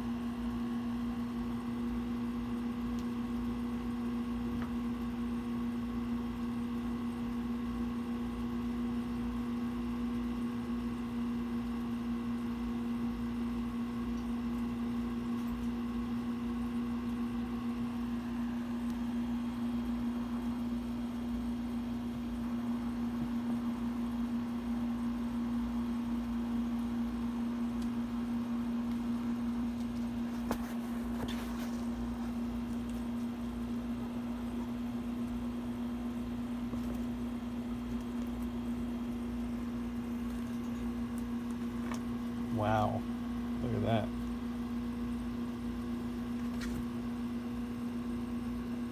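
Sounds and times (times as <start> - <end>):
steady electrical hum: 0.0 - 48.9.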